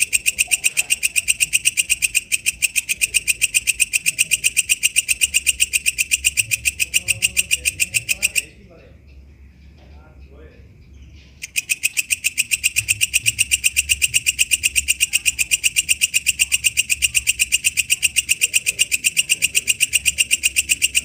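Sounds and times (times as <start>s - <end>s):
bush cricket ticking: 0.0s - 8.6s, 11.4s - 21.0s.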